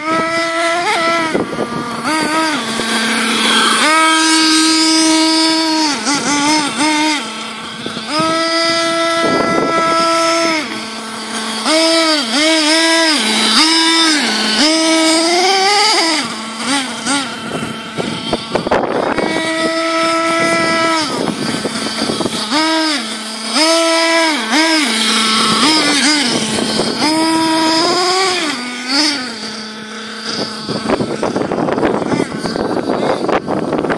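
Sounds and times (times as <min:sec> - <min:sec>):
bursts of rough noise: 0:00.0 - 0:33.9
small nitro engine whining: 0:00.0 - 0:33.9.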